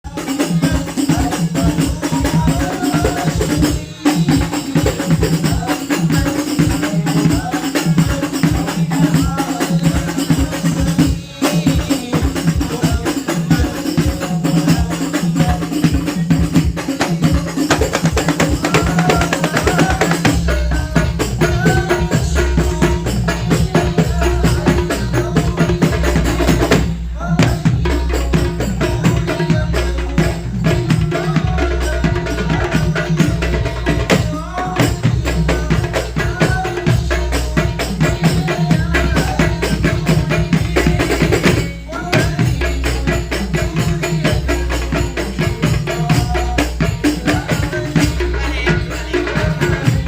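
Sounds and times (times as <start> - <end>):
frame drums playing fast rhythm: 0.0 - 50.0.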